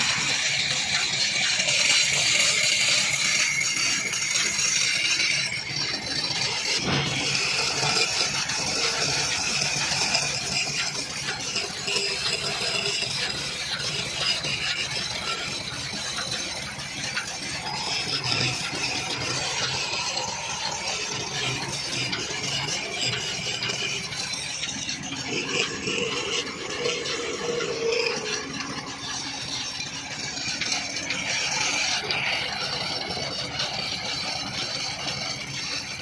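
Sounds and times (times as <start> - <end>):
chisel scraping spinning wood: 0.0 - 36.0
lathe humming and rattling: 0.0 - 36.0.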